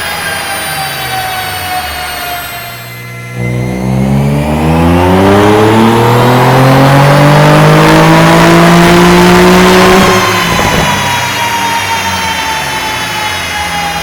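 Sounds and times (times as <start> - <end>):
car engine revving at full throttle: 0.0 - 14.0.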